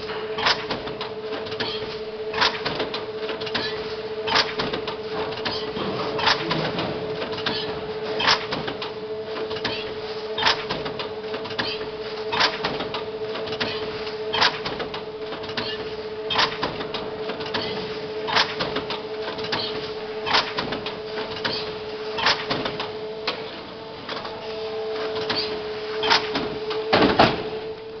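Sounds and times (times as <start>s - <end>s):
machine humming: 0.0s - 28.0s.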